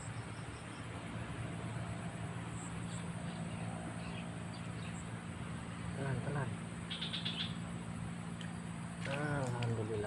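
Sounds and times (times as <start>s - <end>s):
distant motor drone: 0.0s - 10.0s.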